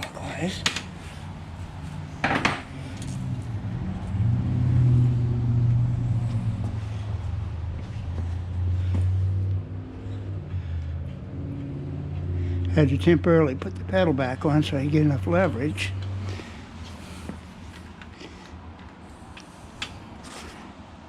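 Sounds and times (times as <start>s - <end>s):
low engine drone: 0.0s - 19.7s.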